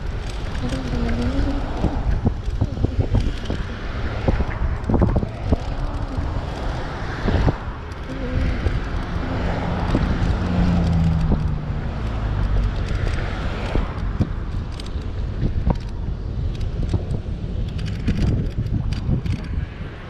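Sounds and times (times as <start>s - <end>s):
rumbling road noise: 0.0s - 20.0s
wind buffeting microphone: 0.0s - 20.0s.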